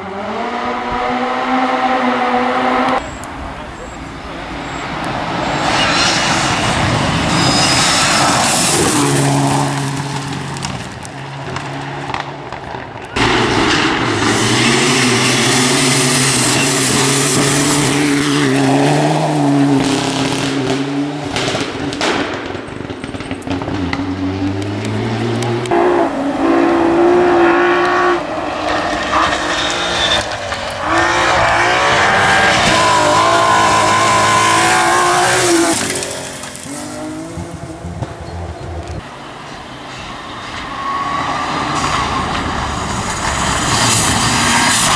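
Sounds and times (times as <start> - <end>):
rally car engine revving: 0.0 - 39.1, 40.2 - 44.9.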